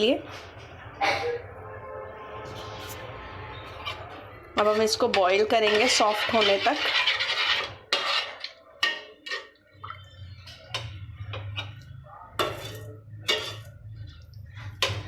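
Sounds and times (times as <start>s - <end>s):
spoon scraping metal pot: 2.5s - 15.0s.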